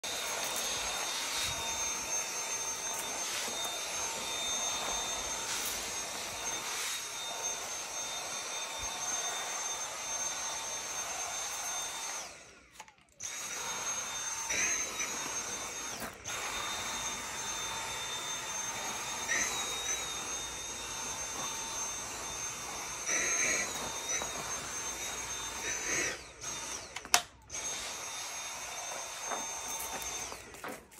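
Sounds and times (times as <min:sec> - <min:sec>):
cordless vacuum whining: 0:00.0 - 0:30.9.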